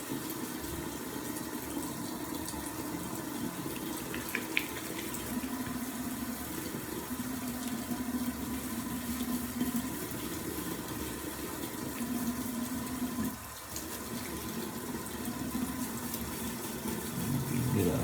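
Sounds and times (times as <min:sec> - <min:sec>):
tap water running: 0:00.0 - 0:18.0.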